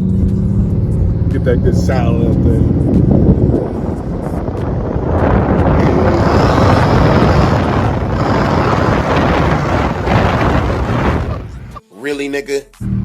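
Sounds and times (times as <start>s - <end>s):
car engine and exhaust roaring: 0.0s - 11.8s.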